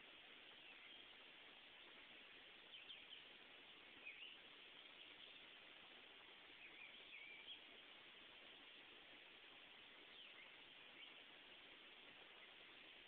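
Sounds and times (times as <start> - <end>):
outdoor background hiss: 0.0 - 13.0
faint bird chirps: 0.4 - 8.9, 9.8 - 13.0.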